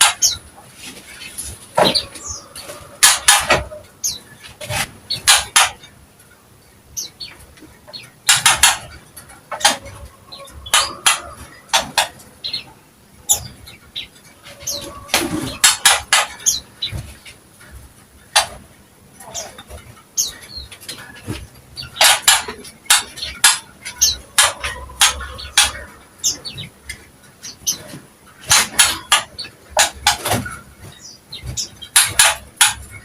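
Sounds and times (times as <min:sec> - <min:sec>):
sharp clattering bursts: 0:00.0 - 0:05.9, 0:08.0 - 0:12.6, 0:13.3 - 0:18.7, 0:20.8 - 0:27.0, 0:27.6 - 0:33.0.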